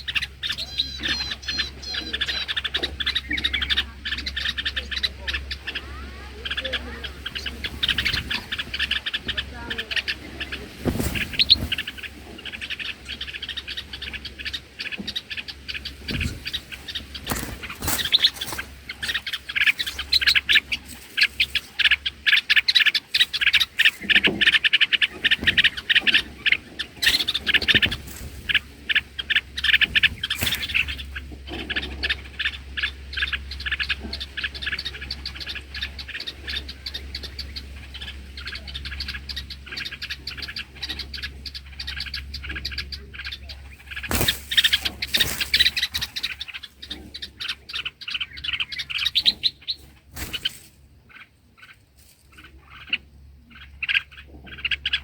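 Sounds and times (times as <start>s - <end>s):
birds chirping rapidly: 0.0s - 55.0s.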